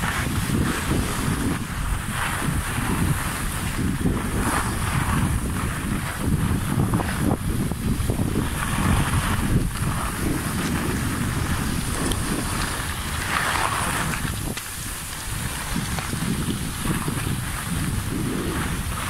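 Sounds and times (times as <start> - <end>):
skis scraping on packed snow: 0.0 - 19.0
wind buffeting microphone: 0.0 - 19.0.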